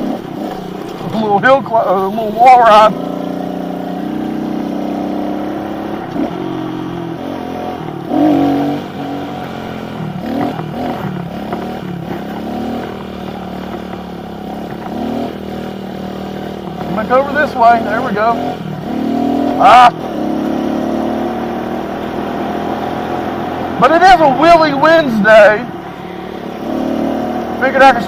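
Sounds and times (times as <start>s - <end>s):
motorbike engine revving: 0.0s - 28.0s.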